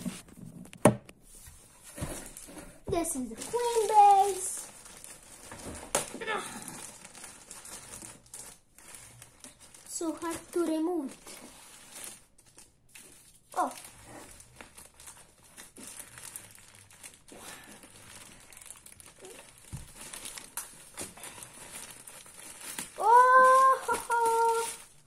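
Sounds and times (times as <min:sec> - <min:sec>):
plastic bag crinkling: 0:02.2 - 0:25.0.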